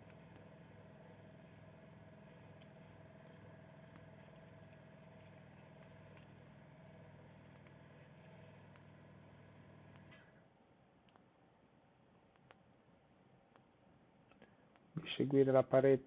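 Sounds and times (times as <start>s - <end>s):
electrical machine hum and whine: 0.0s - 16.0s.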